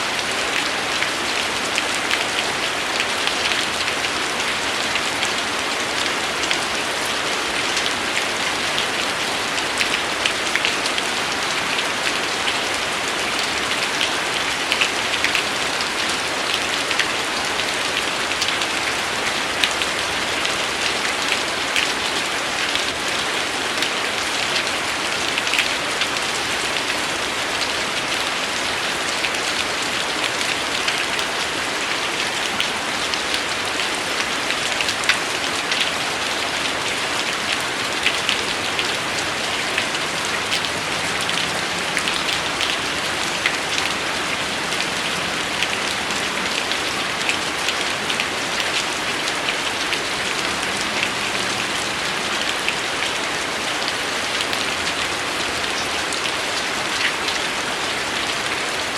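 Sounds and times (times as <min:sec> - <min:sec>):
rain hiss: 0:00.0 - 0:58.9
raindrops ticking on hard surface: 0:00.1 - 0:52.8.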